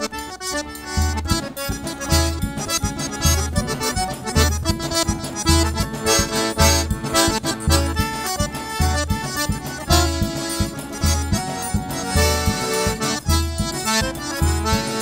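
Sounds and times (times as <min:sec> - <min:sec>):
accordion melody: 0:00.0 - 0:15.0
bass drum beating: 0:01.0 - 0:15.0.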